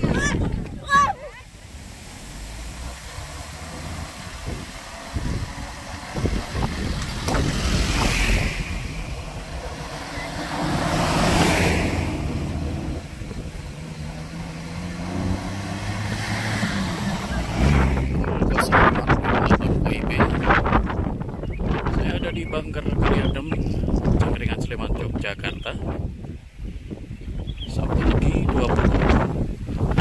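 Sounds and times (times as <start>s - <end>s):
vehicles driving past: 0.0s - 25.2s
wind on microphone: 0.0s - 30.0s.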